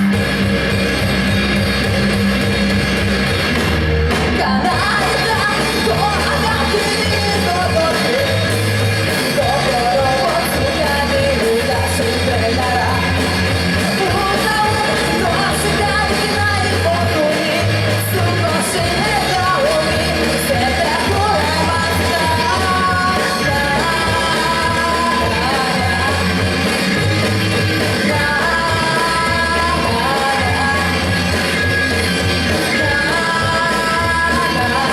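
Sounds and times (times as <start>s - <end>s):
rock band playing: 0.0s - 34.9s
person singing: 4.3s - 34.9s.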